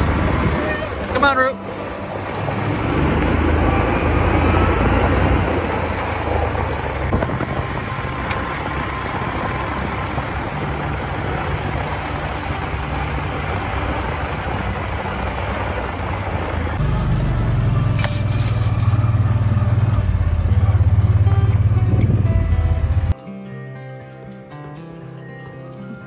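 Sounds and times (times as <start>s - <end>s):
tyres on gravel road: 0.0s - 23.2s
vehicle engine running: 0.0s - 23.2s.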